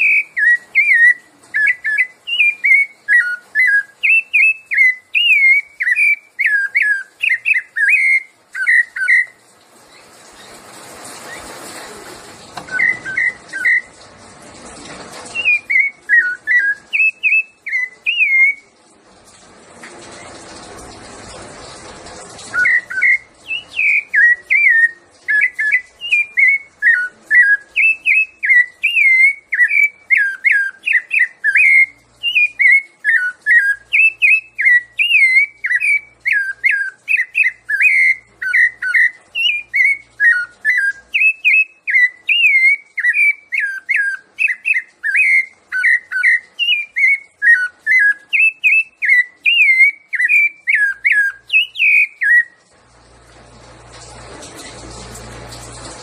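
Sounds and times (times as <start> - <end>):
thrush singing whistled notes: 0.0 - 10.6, 12.6 - 14.0, 15.3 - 18.7, 22.5 - 52.6.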